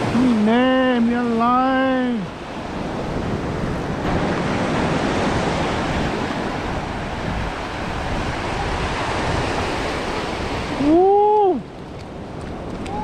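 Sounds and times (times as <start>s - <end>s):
surf washing onto beach: 0.0s - 13.0s
wind buffeting microphone: 1.8s - 13.0s.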